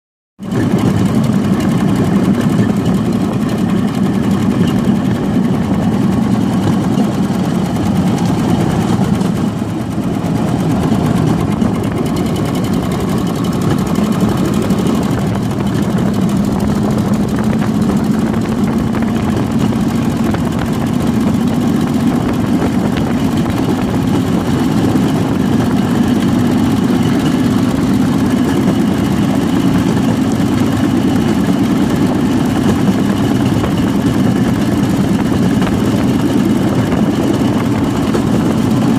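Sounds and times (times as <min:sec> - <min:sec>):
single-cylinder engine running: 0:00.4 - 0:38.9.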